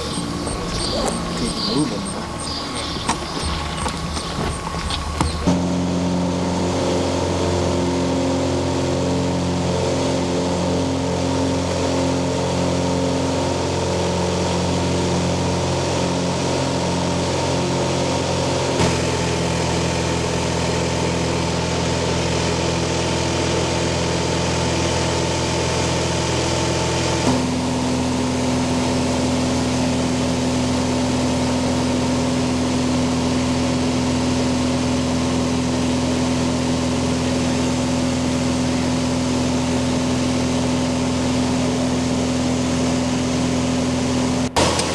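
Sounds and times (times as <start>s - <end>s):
engine droning: 0.0s - 44.9s.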